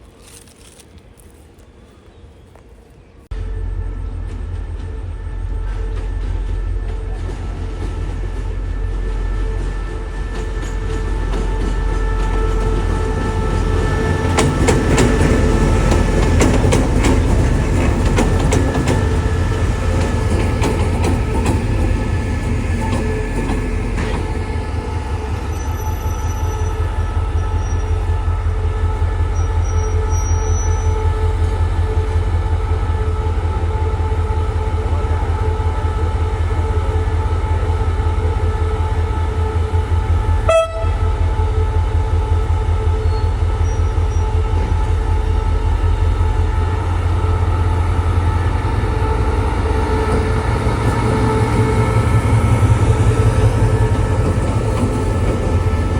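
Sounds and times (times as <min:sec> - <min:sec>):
diesel locomotive engine: 0:00.0 - 0:55.9.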